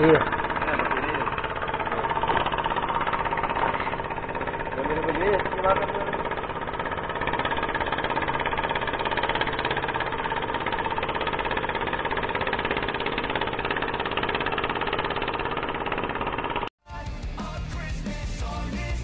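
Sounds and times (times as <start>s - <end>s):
motor engine chugging: 0.0s - 19.0s.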